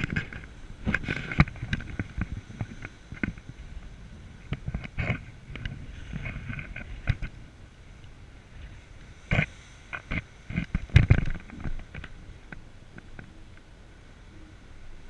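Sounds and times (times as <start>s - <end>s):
low steady rumble: 0.0s - 15.0s
wind buffeting microphone: 0.0s - 15.0s.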